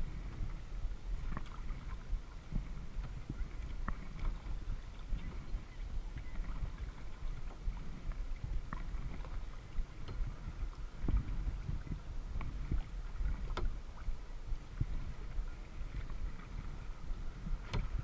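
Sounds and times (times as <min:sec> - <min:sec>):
water splashing around paddle: 0:00.0 - 0:18.0
wind buffeting microphone: 0:00.0 - 0:18.0.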